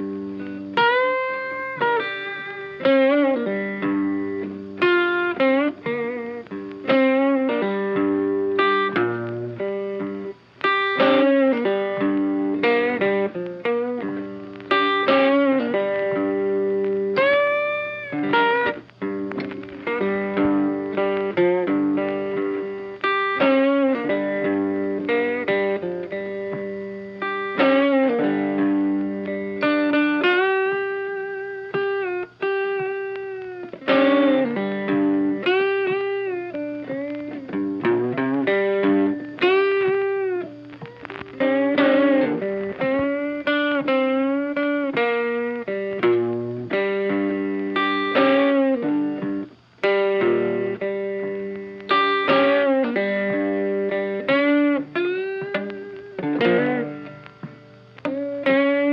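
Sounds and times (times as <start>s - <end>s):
melodic guitar instrumental: 0.0s - 58.9s.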